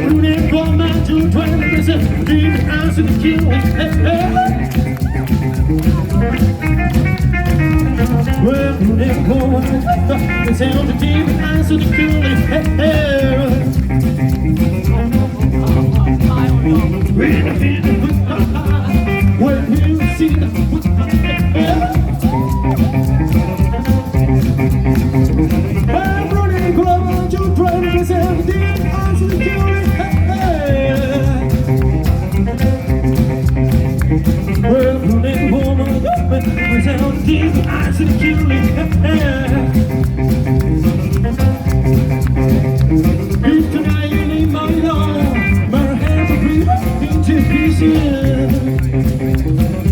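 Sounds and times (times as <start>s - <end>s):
rockabilly band playing live: 0.0s - 49.9s.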